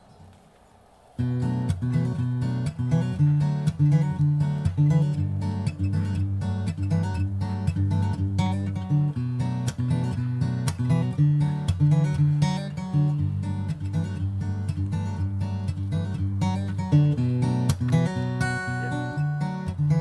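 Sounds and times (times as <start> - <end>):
acoustic guitar strumming: 1.2 - 20.0.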